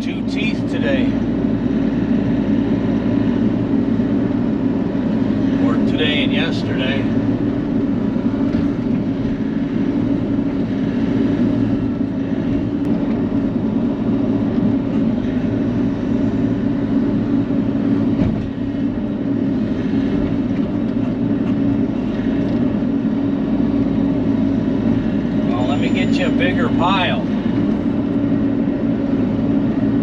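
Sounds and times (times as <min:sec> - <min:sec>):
excavator diesel engine under load: 0:00.0 - 0:30.0.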